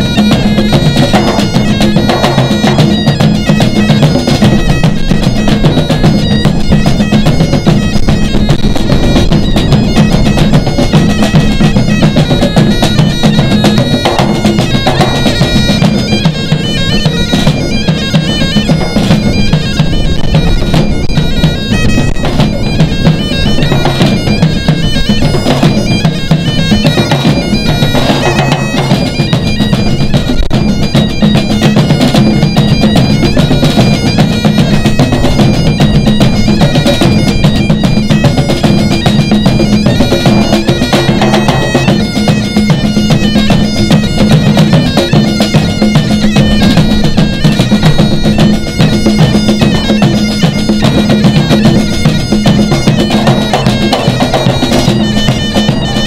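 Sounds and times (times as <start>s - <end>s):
bagpipe playing a tune: 0.0s - 56.0s
drums beating: 0.0s - 56.0s.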